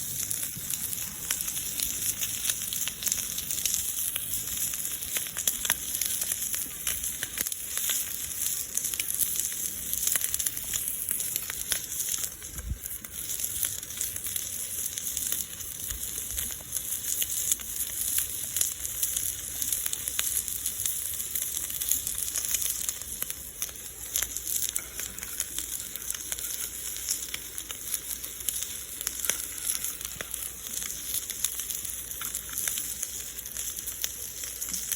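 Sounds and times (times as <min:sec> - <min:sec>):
bacon sizzling in a skillet: 0:00.0 - 0:34.9.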